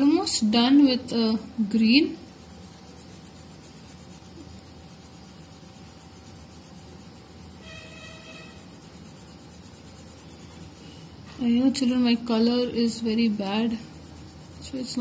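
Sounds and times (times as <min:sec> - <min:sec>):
colored pencil rubbing on paper: 0:00.0 - 0:15.0.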